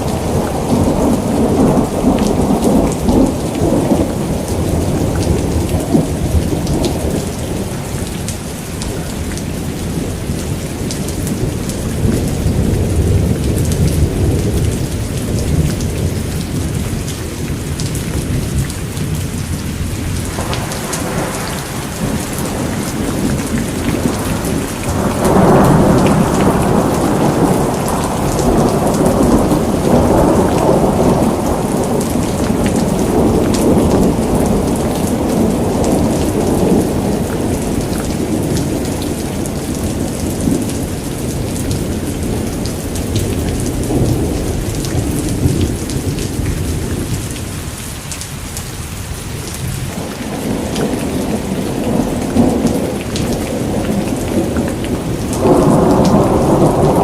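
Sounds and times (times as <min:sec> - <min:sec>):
thunder rumbling: 0:00.0 - 0:47.7, 0:49.3 - 0:57.0
rain pattering: 0:00.0 - 0:57.0.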